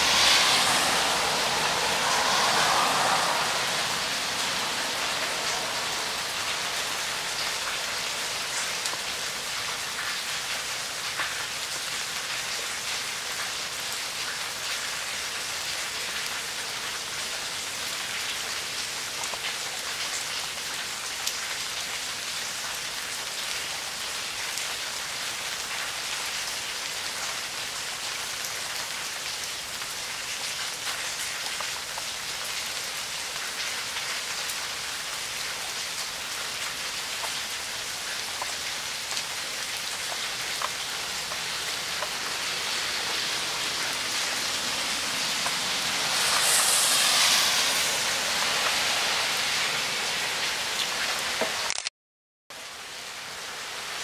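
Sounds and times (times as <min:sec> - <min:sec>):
heavy rain pattering: 0:00.0 - 0:51.8.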